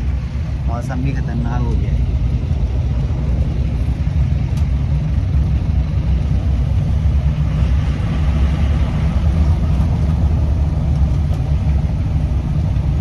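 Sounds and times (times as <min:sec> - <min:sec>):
jeep engine rumble and road noise: 0:00.0 - 0:13.0.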